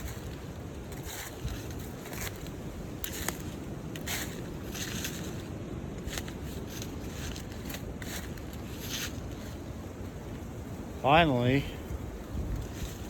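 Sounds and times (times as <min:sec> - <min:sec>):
footsteps crunching dry leaves: 0:00.0 - 0:10.3, 0:12.5 - 0:13.0
wind buffeting the microphone: 0:00.0 - 0:13.0.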